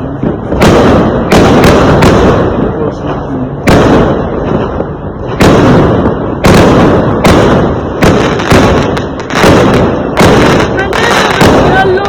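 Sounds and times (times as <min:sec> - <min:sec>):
fireworks loud bangs: 0:00.0 - 0:12.0
fireworks rumble and crackle: 0:00.0 - 0:12.0.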